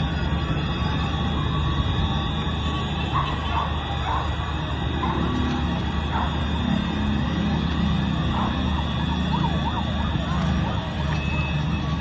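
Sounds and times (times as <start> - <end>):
emergency sirens wailing: 0.0 - 12.0.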